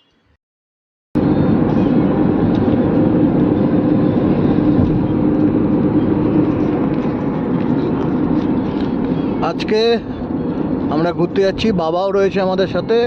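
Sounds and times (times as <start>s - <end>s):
car engine and road noise: 1.2s - 13.0s.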